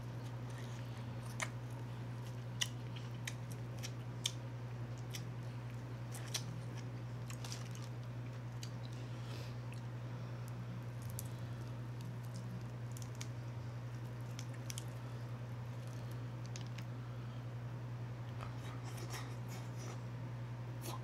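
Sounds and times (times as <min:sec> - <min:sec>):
steady low hum: 0:00.0 - 0:21.0
wet chewing and biting: 0:00.1 - 0:16.9.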